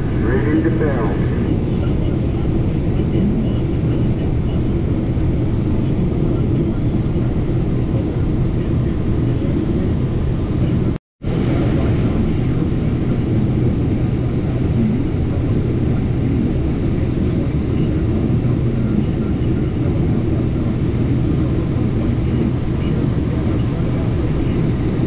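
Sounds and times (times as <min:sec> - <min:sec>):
combine harvester drone from cab: 0:00.0 - 0:25.0.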